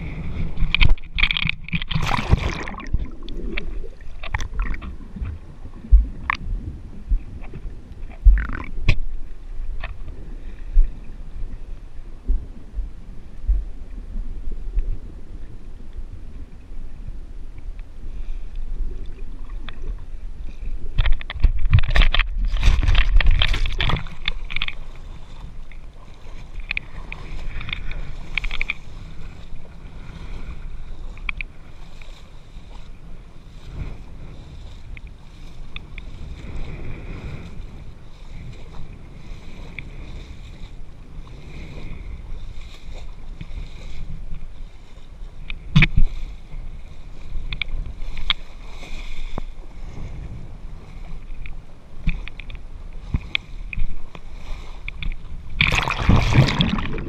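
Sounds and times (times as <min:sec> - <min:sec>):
water sloshing and lapping: 0:00.0 - 0:15.0, 0:17.6 - 0:57.0
wind rumble on microphone: 0:00.0 - 0:57.0.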